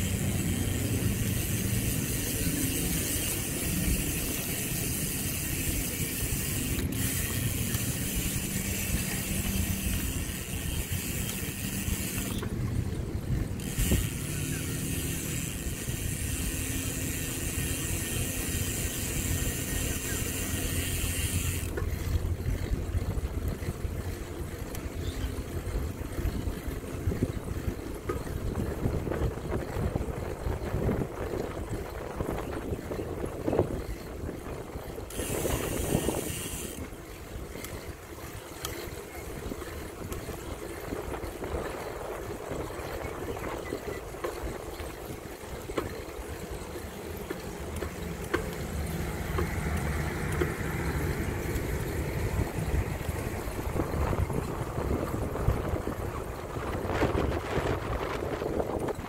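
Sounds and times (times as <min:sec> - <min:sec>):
bicycle rattling on pavement: 0:00.0 - 0:59.0.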